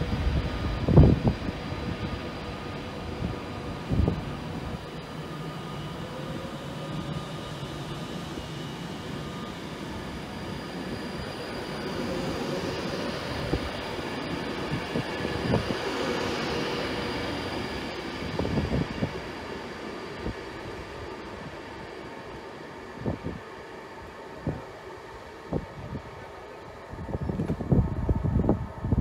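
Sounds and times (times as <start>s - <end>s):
train wheels rushing on rail: 0.0s - 29.0s.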